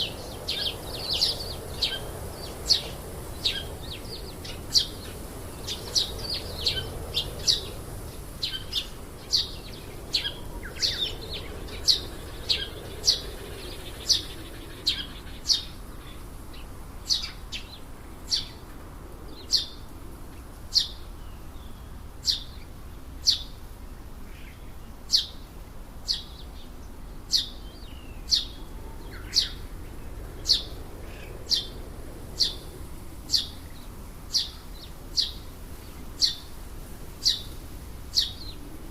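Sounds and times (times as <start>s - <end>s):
bird chirping: 0.0s - 18.6s, 20.7s - 23.6s, 24.4s - 25.4s, 26.1s - 36.5s, 37.2s - 38.7s.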